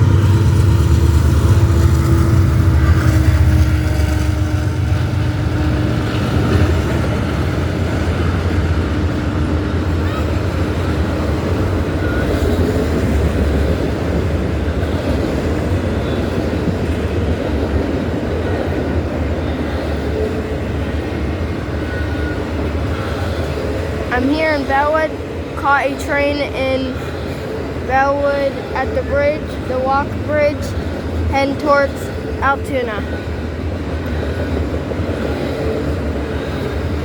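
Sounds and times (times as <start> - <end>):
locomotive engine rumble: 0.0 - 37.0
railroad cars rolling past: 0.0 - 37.0.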